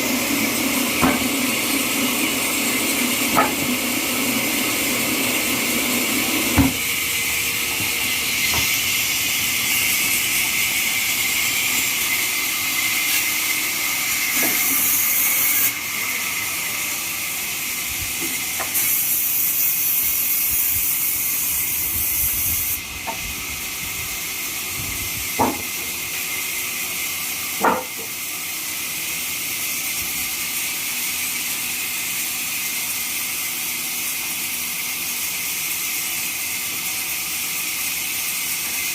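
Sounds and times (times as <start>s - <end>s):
bandsaw cutting log: 0.0s - 38.9s.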